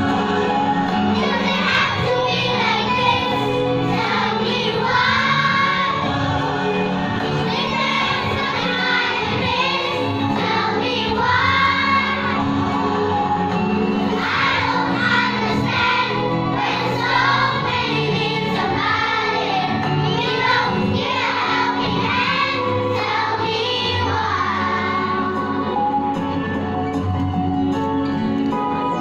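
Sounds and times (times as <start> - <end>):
children's choir singing: 0.0 - 26.2.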